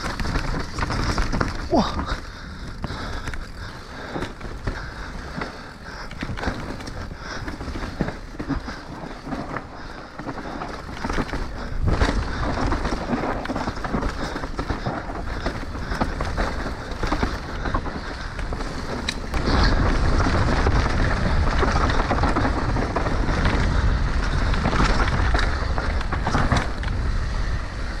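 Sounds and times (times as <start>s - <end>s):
bike clattering over bumps: 0.0s - 28.0s
tyres rolling over loose ground: 0.0s - 28.0s
wind noise on microphone: 0.0s - 28.0s.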